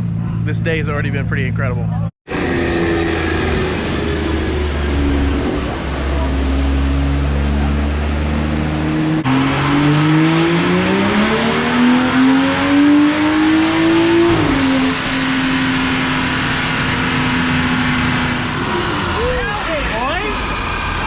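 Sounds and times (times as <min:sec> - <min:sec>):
car engine revving on dyno: 0:02.3 - 0:21.0.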